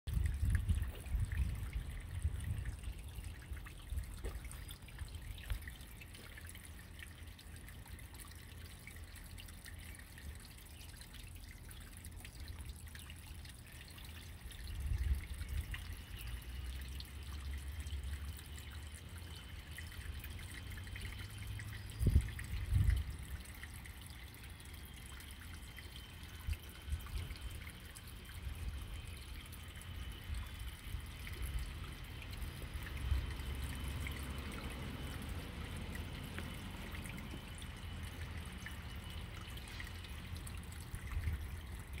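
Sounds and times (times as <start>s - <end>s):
water trickling into pond: 0.0s - 42.0s.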